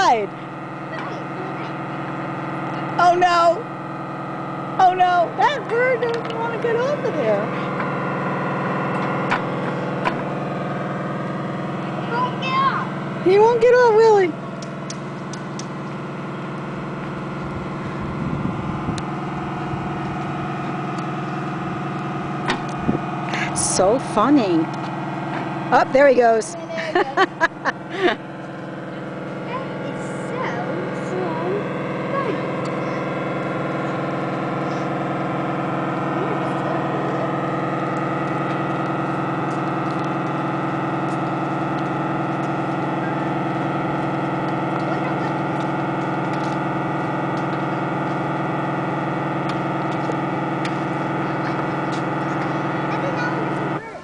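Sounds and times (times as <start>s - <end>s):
model boat motor humming: 0.0s - 54.0s.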